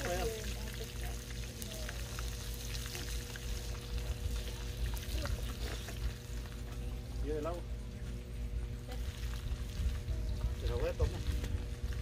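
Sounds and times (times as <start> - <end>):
fish frying in oil: 0.0 - 7.5, 8.6 - 12.0.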